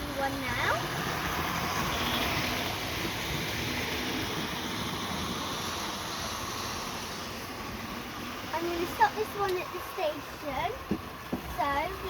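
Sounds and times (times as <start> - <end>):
model train whirring and rattling on track: 0.0 - 12.0.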